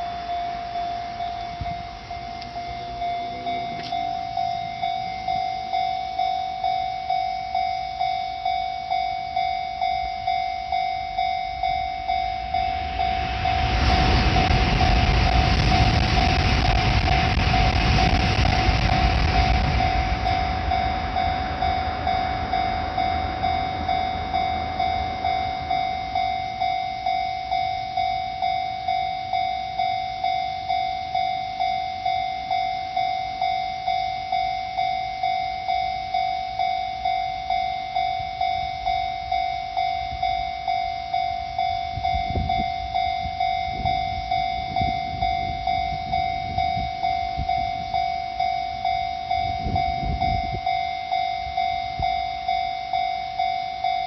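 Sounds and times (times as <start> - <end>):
level crossing warning bell: 0.0 - 54.0
train rumbling: 0.0 - 54.0.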